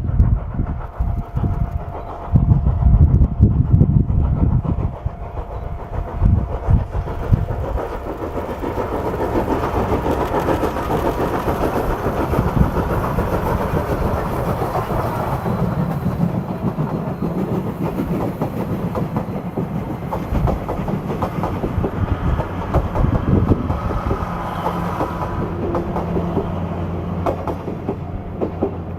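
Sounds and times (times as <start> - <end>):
train wheels clacking over rails: 0.0 - 28.9.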